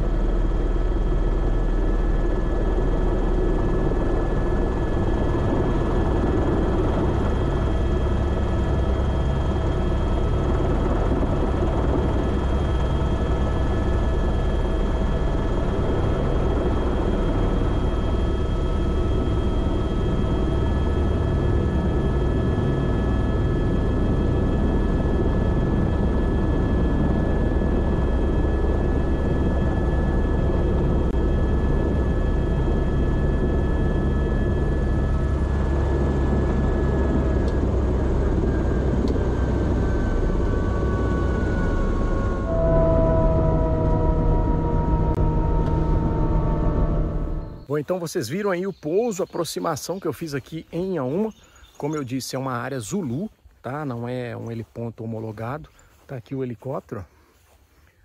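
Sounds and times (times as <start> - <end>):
helicopter engine whine: 0.0 - 54.5
helicopter rotors droning: 0.0 - 58.0.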